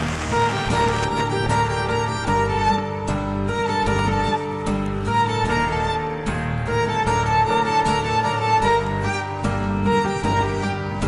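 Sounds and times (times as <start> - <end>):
background music with sustained notes: 0.0 - 11.0.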